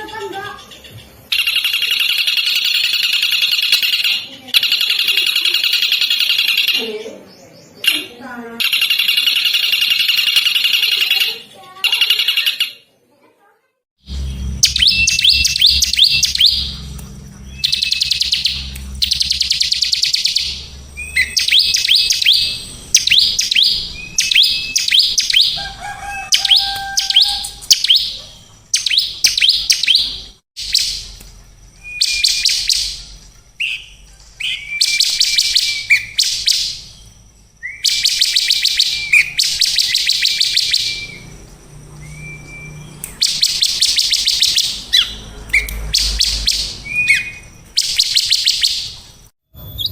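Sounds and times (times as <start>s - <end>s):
songbird trilling: 0.0s - 12.8s, 14.1s - 49.0s.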